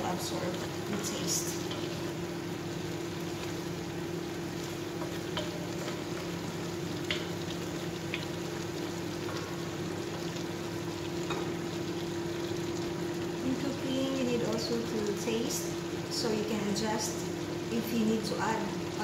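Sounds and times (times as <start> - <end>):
chicken sizzling in a wok: 0.0 - 19.0
steady low hum: 0.0 - 19.0.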